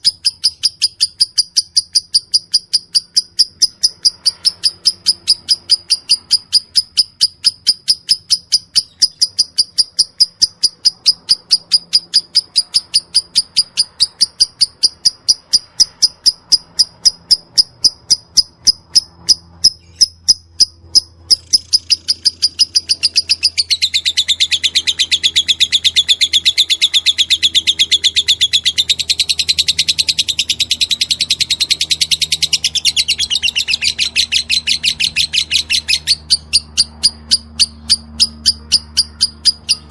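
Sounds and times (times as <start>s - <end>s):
lovebird chattering: 0.0s - 39.9s
lovebird ticking chirps: 0.0s - 39.9s.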